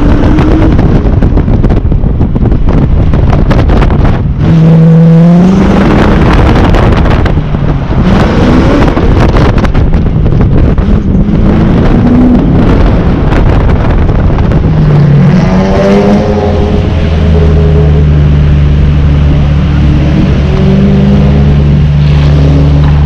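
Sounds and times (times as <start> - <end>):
car engine revving: 0.0 - 23.0
wind buffeting microphone: 0.0 - 23.0.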